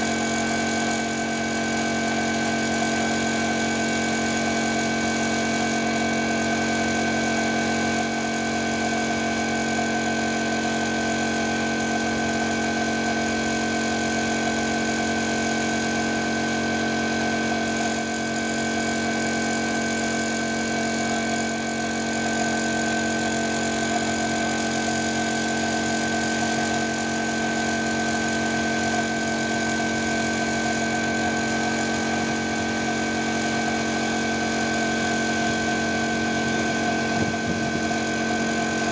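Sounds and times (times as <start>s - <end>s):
air compressor motor running: 0.0s - 38.9s
spray gun air hiss: 0.0s - 38.9s.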